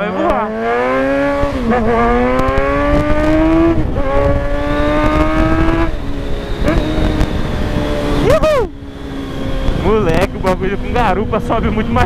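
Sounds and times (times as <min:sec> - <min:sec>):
motorcycle engine revving: 0:00.0 - 0:12.0
wind on microphone: 0:01.2 - 0:12.0.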